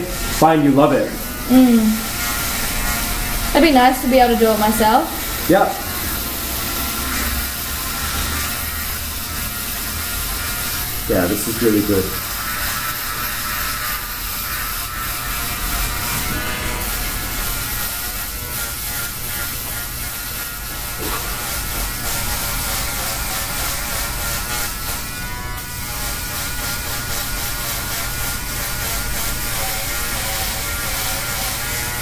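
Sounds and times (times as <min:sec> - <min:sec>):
electric shaver buzzing: 0:00.0 - 0:32.0.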